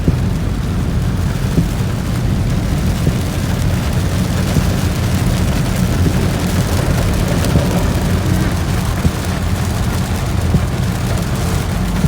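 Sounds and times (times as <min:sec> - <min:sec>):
car driving in heavy rain: 0:00.0 - 0:12.0.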